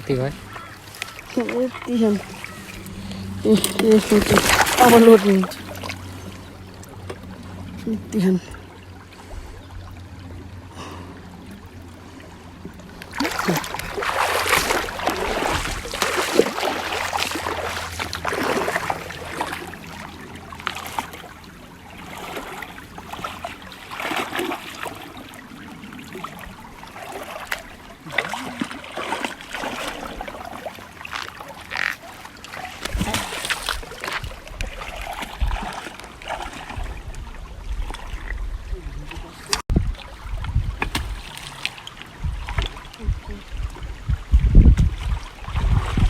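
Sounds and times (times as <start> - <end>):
shallow river water splashing: 0.0 - 46.0.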